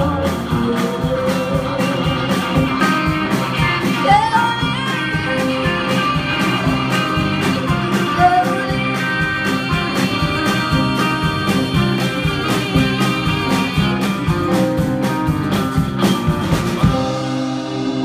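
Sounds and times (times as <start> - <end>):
drum beat: 0.0 - 17.2
guitars ringing: 0.0 - 18.0
live band playing: 0.0 - 18.0.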